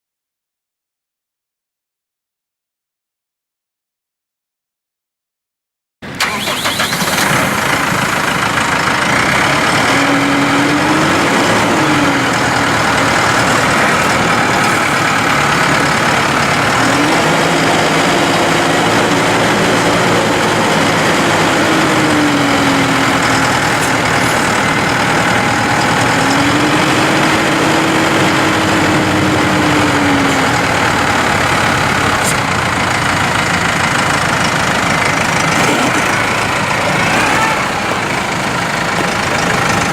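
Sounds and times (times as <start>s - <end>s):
tractor diesel engine running: 6.0s - 39.9s.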